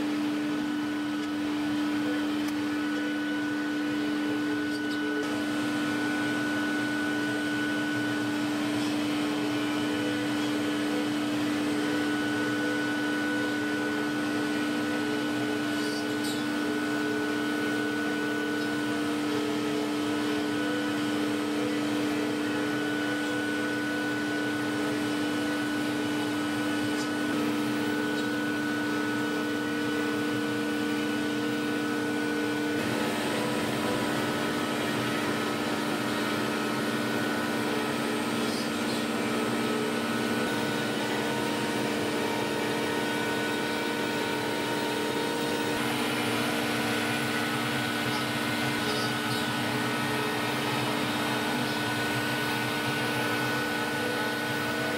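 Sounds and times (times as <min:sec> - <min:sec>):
router spindle hum: 0:00.0 - 0:54.9.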